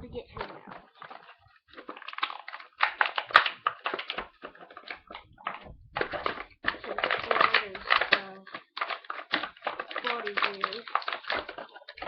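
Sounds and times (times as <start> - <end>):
toy packaging crinkling: 0.2 - 12.0.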